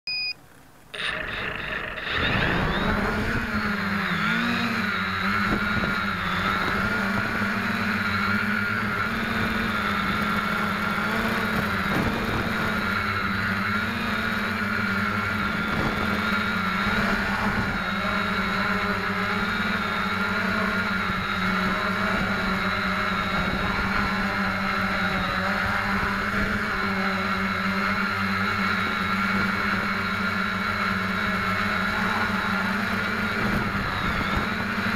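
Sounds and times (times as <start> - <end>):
quadcopter motors buzzing whine: 0.1 - 34.9.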